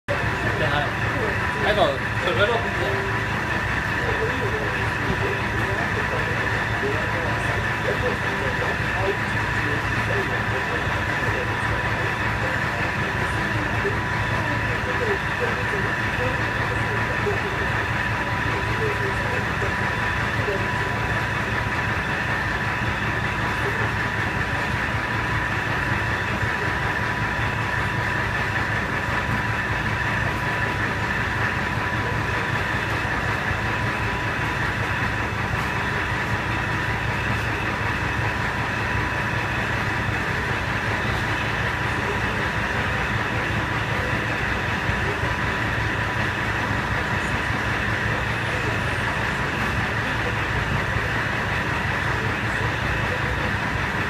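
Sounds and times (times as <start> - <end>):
train carriage rumble: 0.0 - 54.0
thin constant whine: 0.1 - 54.0.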